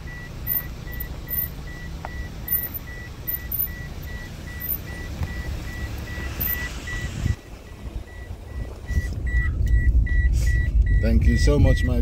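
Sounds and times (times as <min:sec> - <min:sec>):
continuous low rumble: 0:00.0 - 0:12.0
high electronic beeping: 0:00.0 - 0:12.0.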